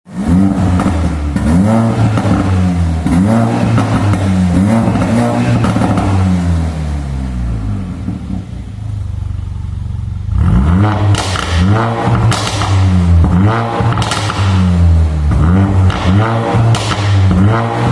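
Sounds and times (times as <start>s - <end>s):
car engine revving: 0.1s - 17.9s
car engine idling: 0.5s - 17.4s.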